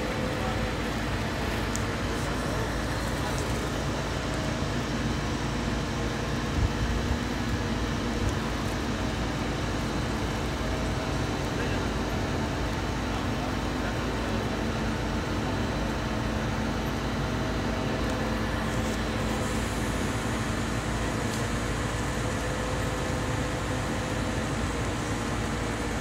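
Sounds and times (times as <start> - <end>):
crane diesel engine droning: 0.0 - 26.0.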